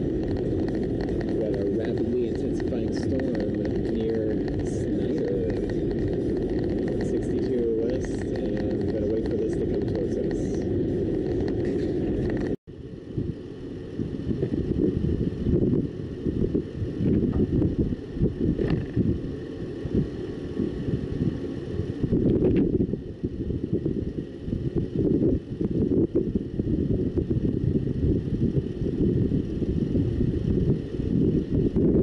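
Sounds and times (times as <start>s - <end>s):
gusty wind buffeting microphone: 0.0s - 32.0s.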